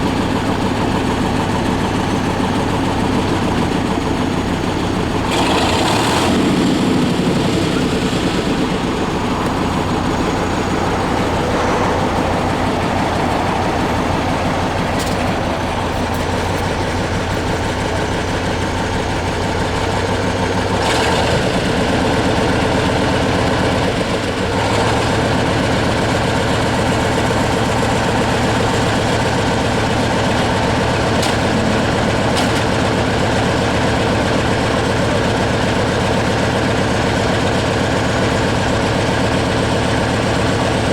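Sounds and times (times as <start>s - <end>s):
heavy engine running: 0.0s - 40.9s.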